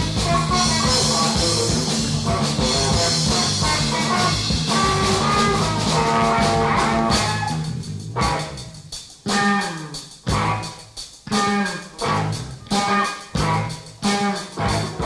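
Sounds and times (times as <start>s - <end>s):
electric guitar chords with band: 0.0s - 15.0s.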